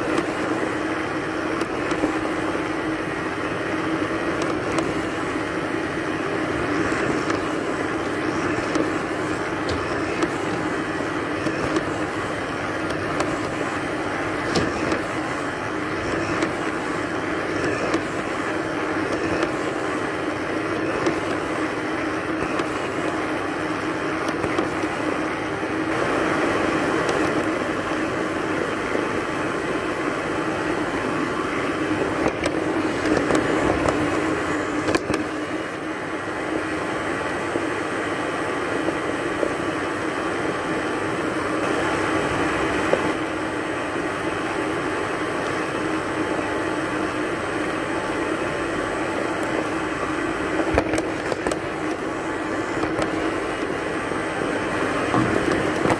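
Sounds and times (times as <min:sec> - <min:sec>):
robot vacuum humming: 0:00.0 - 0:55.9.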